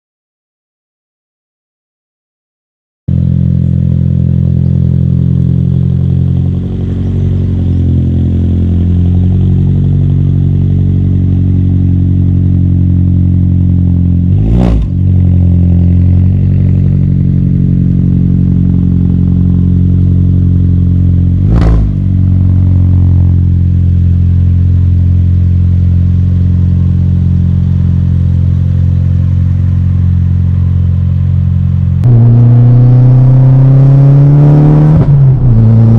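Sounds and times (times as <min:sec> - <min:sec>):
car engine idling: 0:03.1 - 0:34.3.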